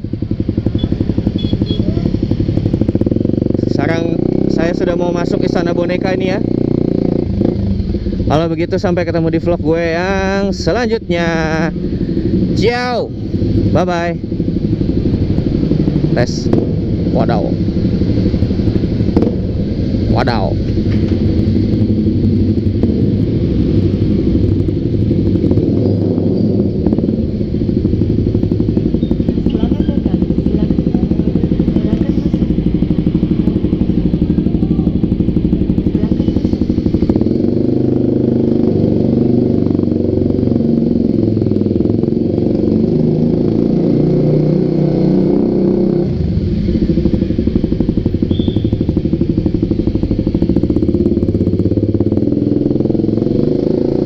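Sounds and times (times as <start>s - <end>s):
motorcycle engine echoing in garage: 0.0s - 54.0s.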